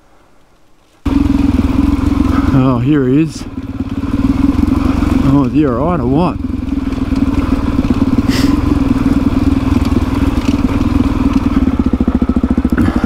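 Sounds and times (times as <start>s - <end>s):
dirt bike engine idling: 1.0s - 13.0s.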